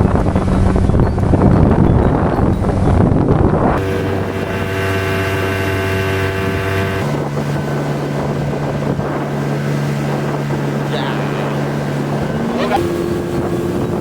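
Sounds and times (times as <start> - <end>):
motorboat engine hum: 0.0 - 14.0
wind on microphone: 0.0 - 14.0.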